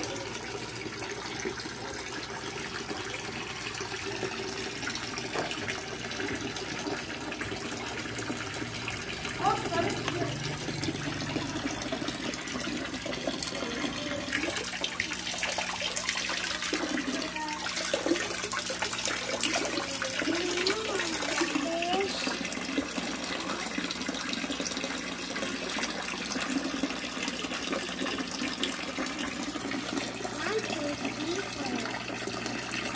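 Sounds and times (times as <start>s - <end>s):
water splashing into a pond: 0.0s - 32.9s.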